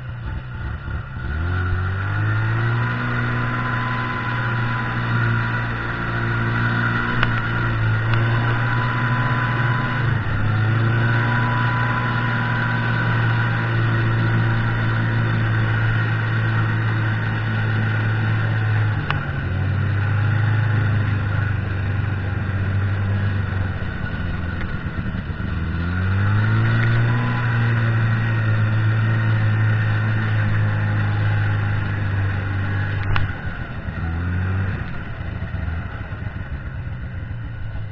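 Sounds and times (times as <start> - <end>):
snowmobile engine revving: 0.0 - 37.8.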